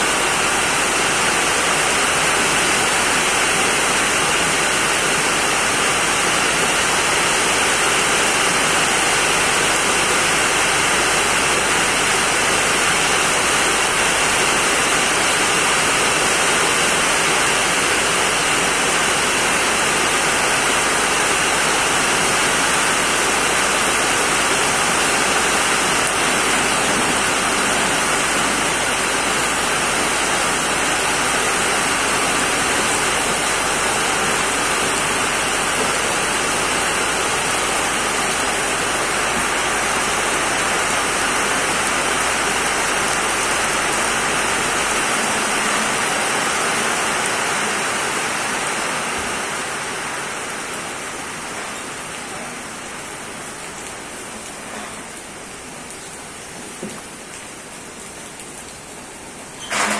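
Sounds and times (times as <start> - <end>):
heavy rain on metal roofs: 0.0 - 59.9.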